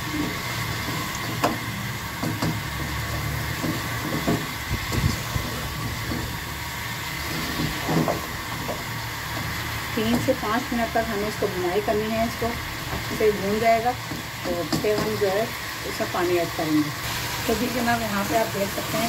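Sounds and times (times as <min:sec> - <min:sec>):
food frying rumble and hiss: 0:00.0 - 0:19.0.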